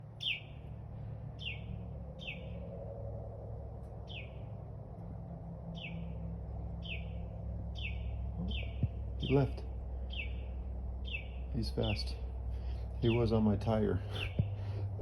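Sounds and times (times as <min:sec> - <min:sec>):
low hum: 0:00.0 - 0:15.0
songbird chirping: 0:00.0 - 0:15.0.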